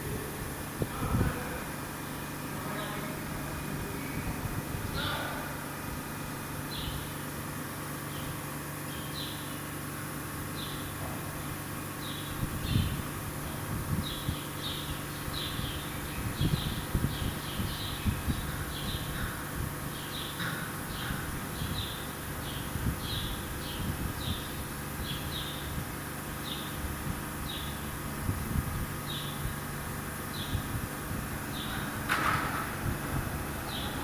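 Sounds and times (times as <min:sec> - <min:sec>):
fan humming: 0:00.0 - 0:34.0.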